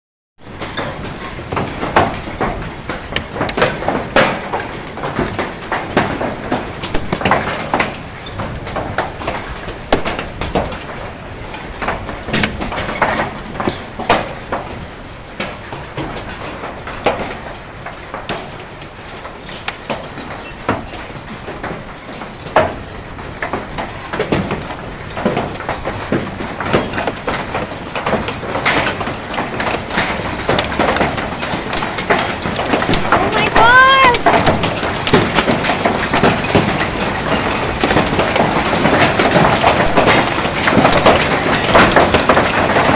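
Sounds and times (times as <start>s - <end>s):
hail and rain on metal roof: 0.4s - 42.9s.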